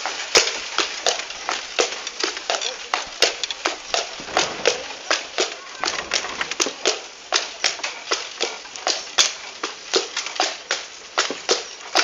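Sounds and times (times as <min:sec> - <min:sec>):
horse hooves clip-clopping on pavement: 0:00.0 - 0:12.0.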